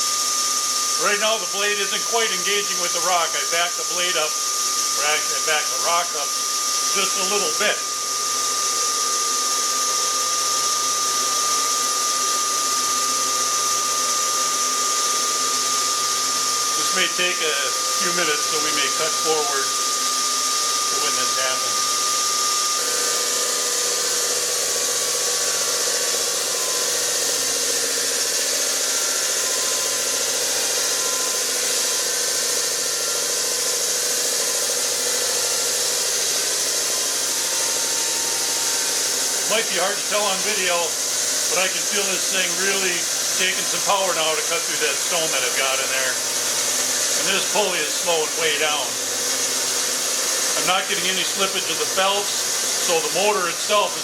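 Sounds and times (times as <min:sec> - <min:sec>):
rock saw whining: 0:00.0 - 0:54.0.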